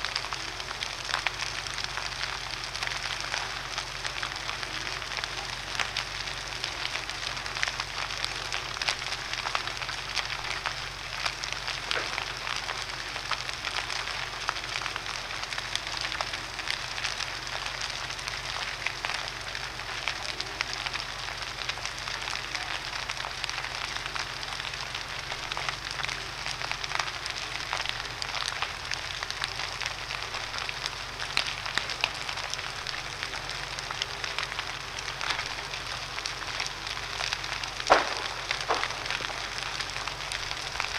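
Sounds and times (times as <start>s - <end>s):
fire burning and crackling: 0.0s - 40.9s.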